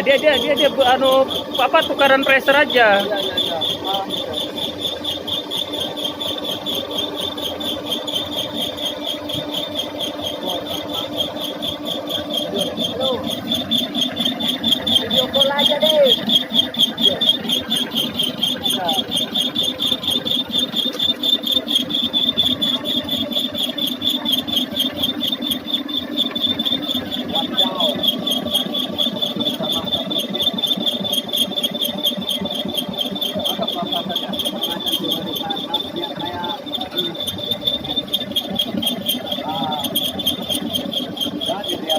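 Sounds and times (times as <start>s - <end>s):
boring machine humming with pulse: 0.0s - 41.9s.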